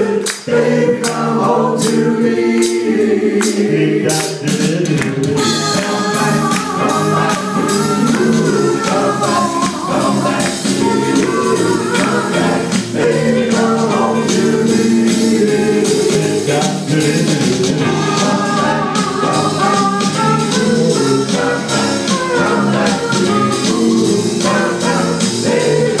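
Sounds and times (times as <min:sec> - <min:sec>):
vocal group singing in harmony: 0:00.0 - 0:26.0
sharp percussion hits: 0:02.6 - 0:26.0.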